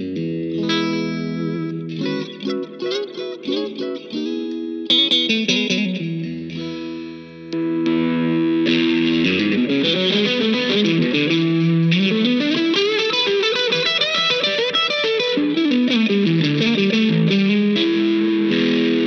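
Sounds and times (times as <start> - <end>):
electric guitar through amp: 0.0 - 19.0.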